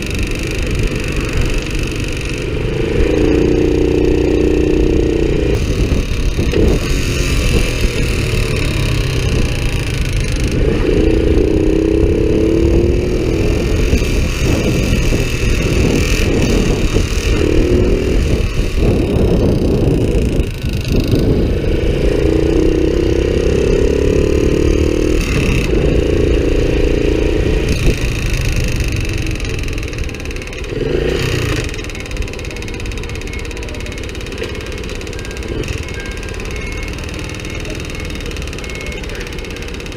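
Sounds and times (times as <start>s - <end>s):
abnormal mechanical engine noise: 0.0s - 39.9s
motorcycle engine revving: 0.0s - 39.9s.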